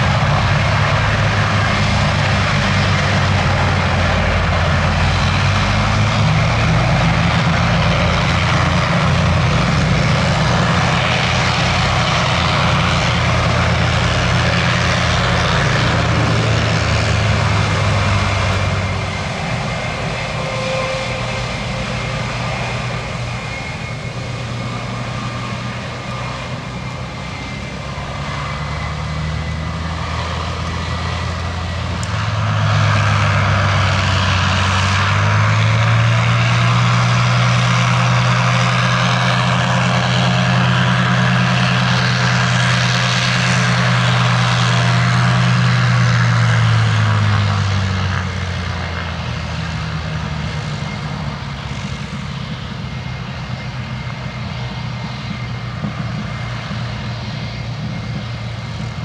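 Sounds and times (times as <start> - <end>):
propeller engines droning: 0.0 - 59.0.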